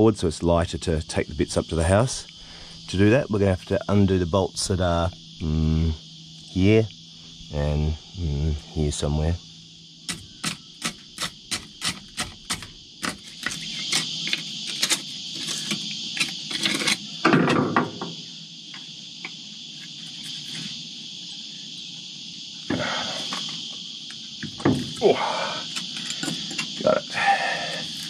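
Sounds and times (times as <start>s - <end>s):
high insect chorus: 0.0s - 28.0s.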